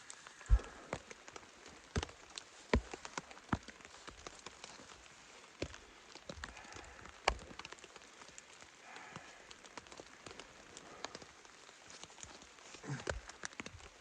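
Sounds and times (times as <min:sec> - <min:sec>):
rain pattering on fabric: 0:00.0 - 0:14.0.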